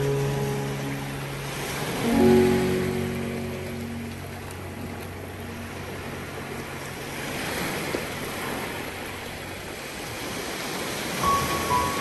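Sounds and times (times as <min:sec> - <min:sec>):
waves washing on shore: 0:00.0 - 0:12.0.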